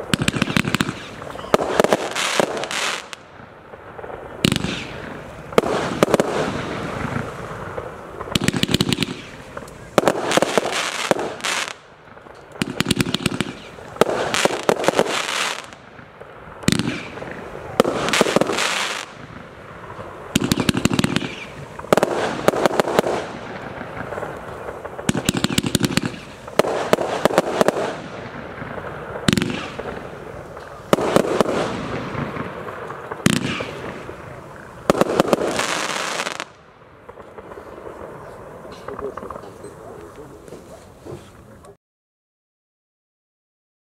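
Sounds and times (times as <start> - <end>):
fireworks launching and bursting: 0.0 - 41.5.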